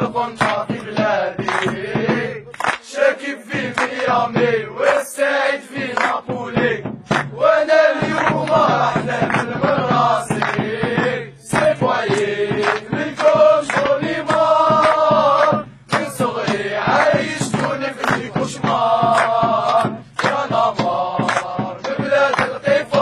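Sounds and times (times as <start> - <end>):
men chanting together: 0.0 - 23.0
percussion: 0.0 - 23.0.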